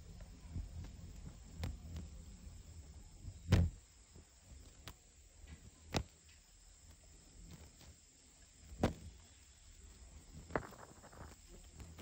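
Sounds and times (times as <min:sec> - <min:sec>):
beaks tapping ground: 0:00.0 - 0:03.9, 0:04.5 - 0:12.0.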